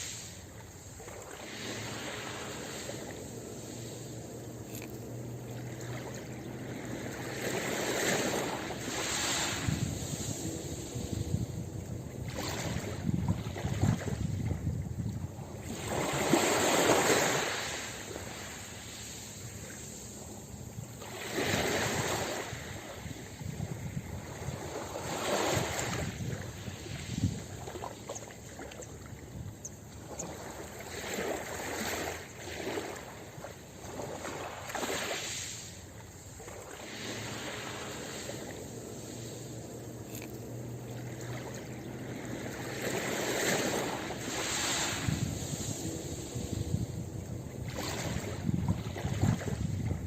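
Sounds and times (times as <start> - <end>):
ocean waves breaking on beach: 0.0 - 50.0.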